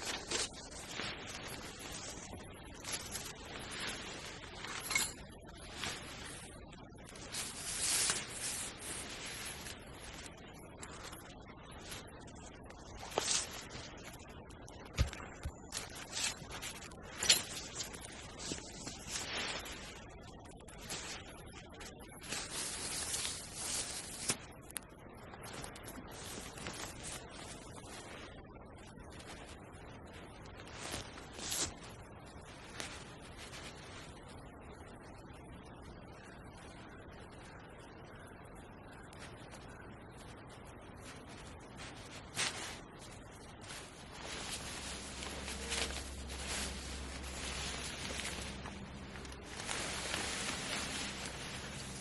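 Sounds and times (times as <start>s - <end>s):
rustling and rubbing: 0.0s - 37.6s, 38.2s - 52.0s.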